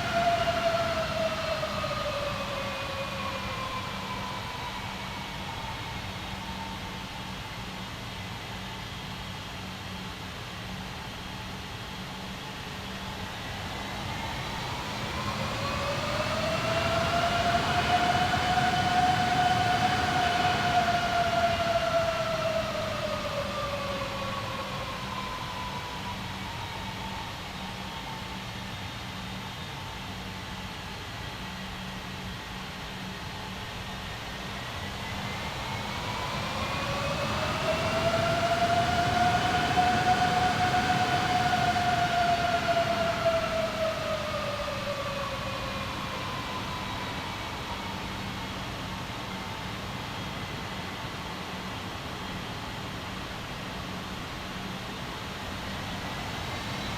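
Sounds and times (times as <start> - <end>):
jet engines whining: 0.0 - 10.0, 10.6 - 56.9.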